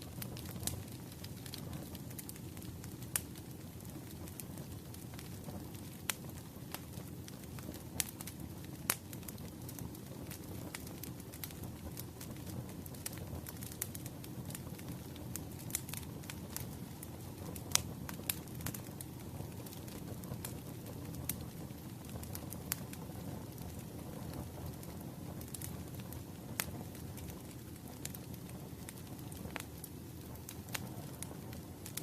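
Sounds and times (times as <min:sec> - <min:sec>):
burning logs crackling and popping: 0:00.0 - 0:32.0
low rumble of flames: 0:00.0 - 0:32.0.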